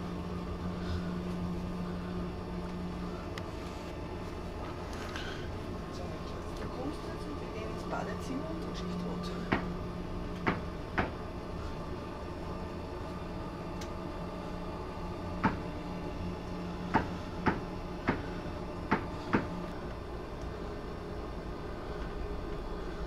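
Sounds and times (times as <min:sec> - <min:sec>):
steady ship hum: 0:00.0 - 0:23.0.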